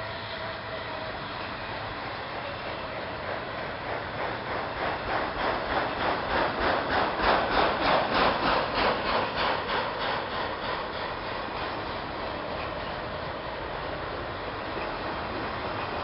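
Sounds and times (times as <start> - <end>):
freight cars rolling on rails: 0.0 - 16.0.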